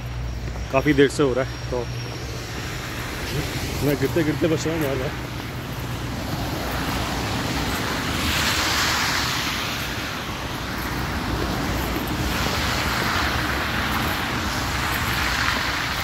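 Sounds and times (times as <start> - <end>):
tyres hissing through slush: 0.0 - 16.0.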